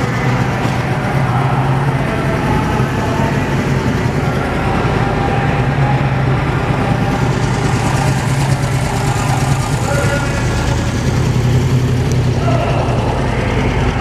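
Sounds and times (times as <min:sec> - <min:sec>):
indistinct crowd chatter: 0:00.0 - 0:14.0
low drone of exhibition hall: 0:00.0 - 0:14.0.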